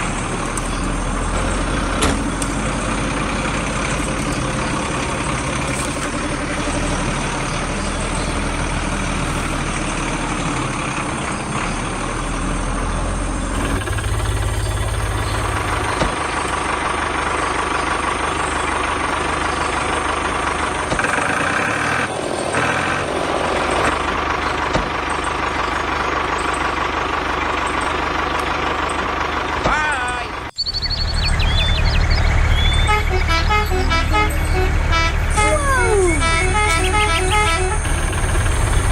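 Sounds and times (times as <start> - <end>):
vehicle engine idling: 0.0 - 38.9.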